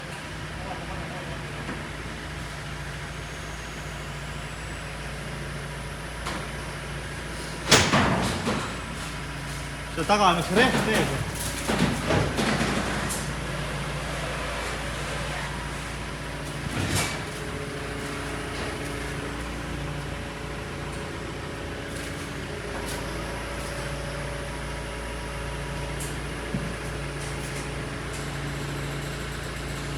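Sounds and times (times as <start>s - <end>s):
engine running at low hum: 0.0s - 29.9s.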